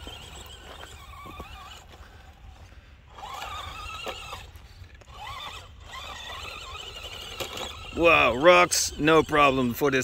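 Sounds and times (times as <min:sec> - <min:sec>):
electric toy truck motor whining: 0:00.0 - 0:09.8.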